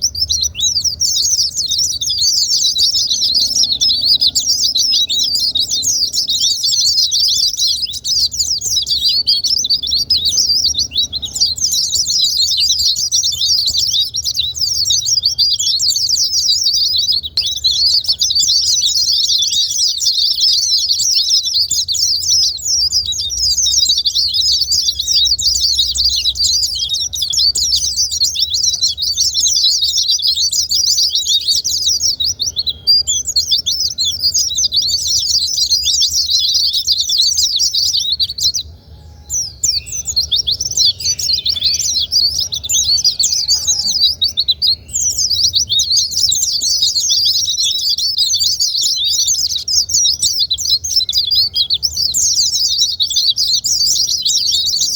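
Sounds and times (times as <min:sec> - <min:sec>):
high twittering bird chirps: 0:00.0 - 0:54.9.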